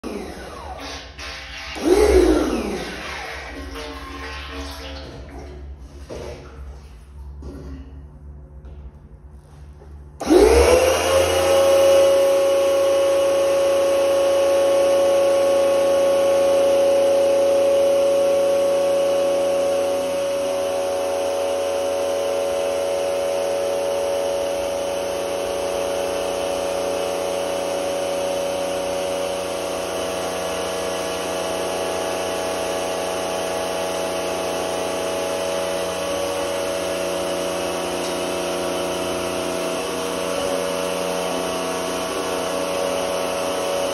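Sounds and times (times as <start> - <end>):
pump whining: 0.0 - 7.6, 10.2 - 43.9.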